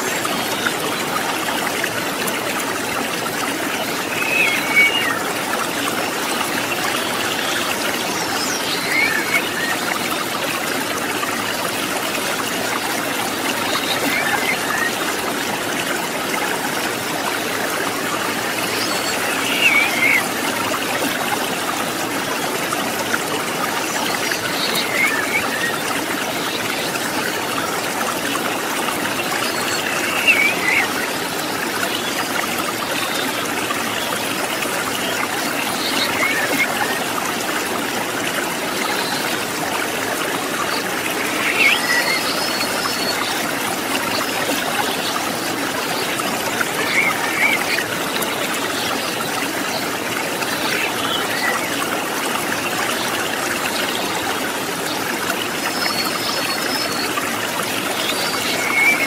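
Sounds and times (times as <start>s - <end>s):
river flowing over stones: 0.0s - 59.0s.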